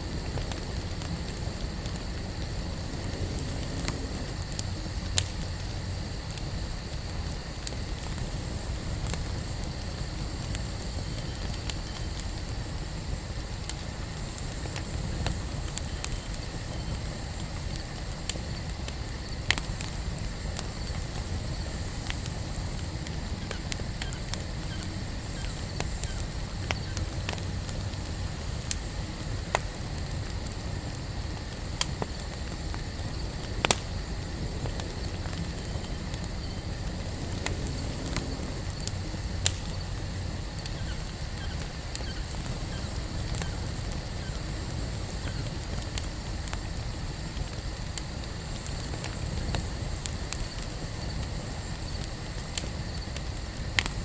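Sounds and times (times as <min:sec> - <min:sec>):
campfire flames rumbling: 0:00.0 - 0:54.0
wood crackling and popping: 0:00.1 - 0:54.0.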